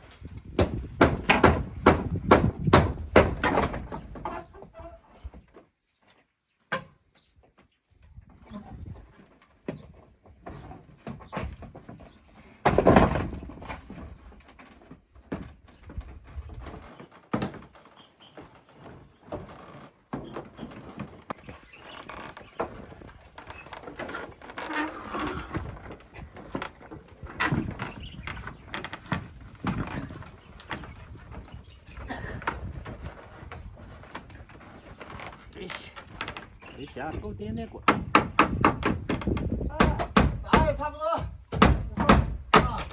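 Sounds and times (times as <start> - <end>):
knocks and clatter on wooden roof: 0.0 - 5.7, 6.7 - 42.9.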